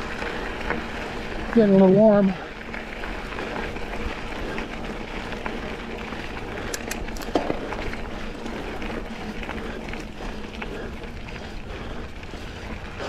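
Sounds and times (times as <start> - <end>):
bike clicks and rattles: 0.0 - 13.0
bike tyres rolling on dirt: 0.0 - 13.0.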